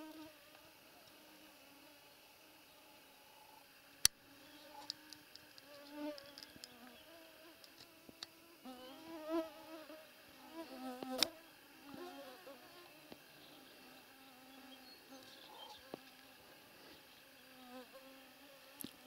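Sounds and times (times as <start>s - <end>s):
flying insects buzzing: 0.0s - 19.0s.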